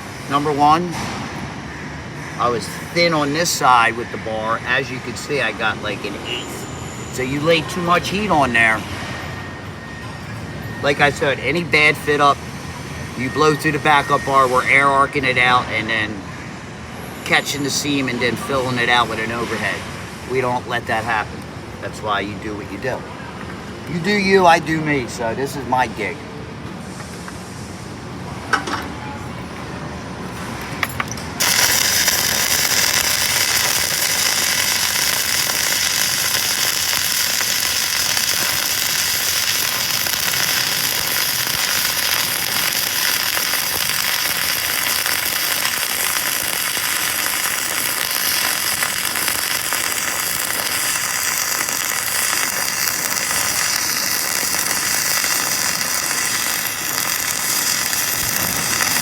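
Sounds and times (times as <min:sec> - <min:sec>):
arc welding crackle: 0:00.0 - 0:09.5, 0:10.4 - 0:21.6, 0:31.4 - 0:59.0.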